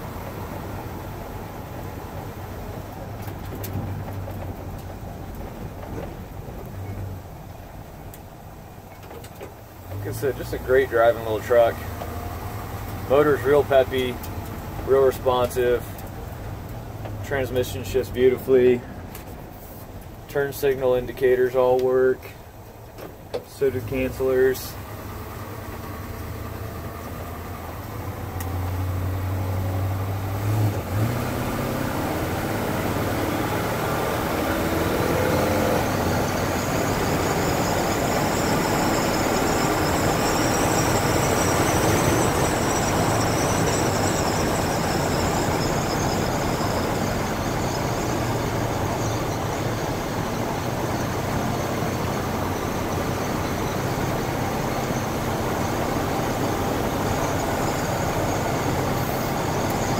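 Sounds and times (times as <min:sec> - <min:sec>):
pickup truck engine driving: 0:00.0 - 0:59.9
road and wind noise: 0:00.0 - 0:59.9.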